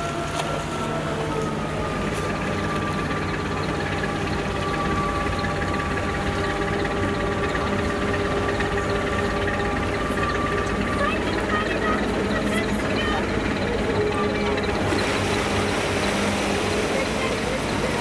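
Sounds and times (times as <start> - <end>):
ship diesel engine running: 0.0 - 18.0.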